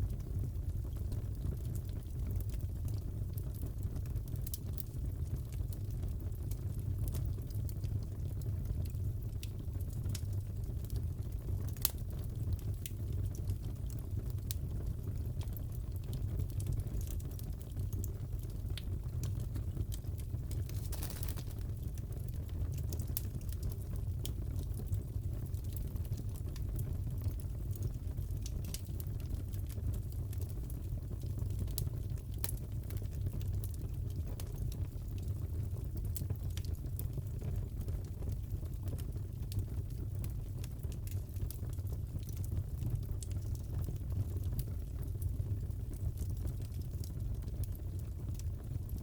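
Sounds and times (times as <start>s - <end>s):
wood fire crackling: 0.1s - 49.0s.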